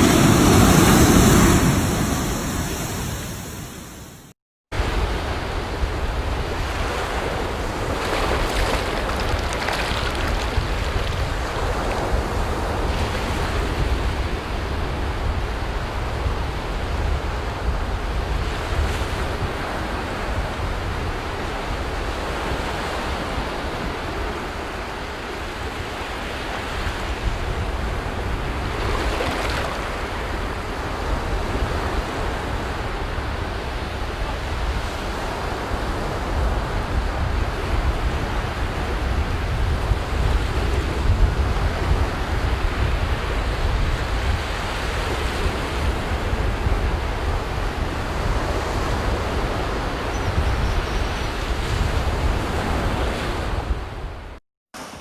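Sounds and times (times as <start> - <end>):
sea waves breaking on beach: 0.0 - 4.1, 4.8 - 16.0, 18.5 - 50.0
wind rumbling on microphone: 0.0 - 24.8, 25.6 - 54.4.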